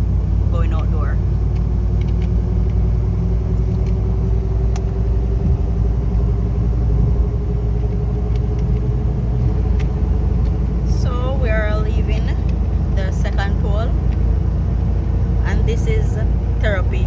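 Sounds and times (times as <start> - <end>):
car road and engine rumble: 0.0 - 17.0
constant hum: 0.0 - 17.0.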